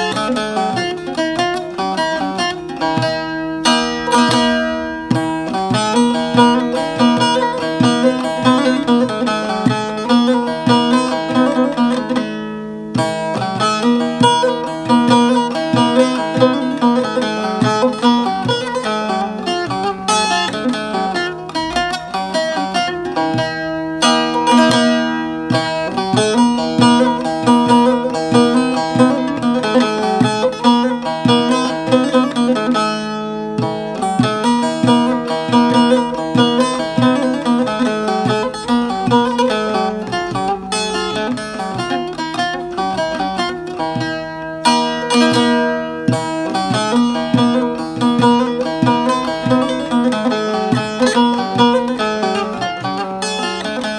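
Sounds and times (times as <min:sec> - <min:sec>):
plucked long-necked lute melody: 0:00.0 - 0:53.9
strummed lute strike: 0:00.0 - 0:53.9.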